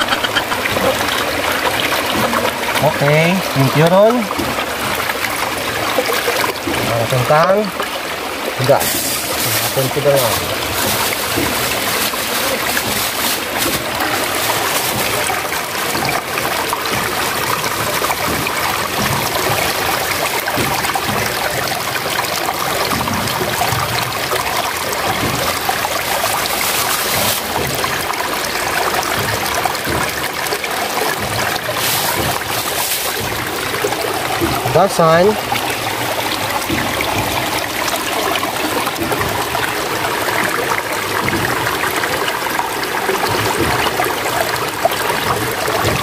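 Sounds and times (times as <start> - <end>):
stream running over rocks: 0.0 - 46.0.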